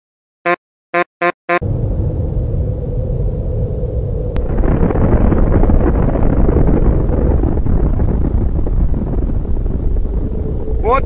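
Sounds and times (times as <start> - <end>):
low rumble of explosion: 1.6 - 11.0.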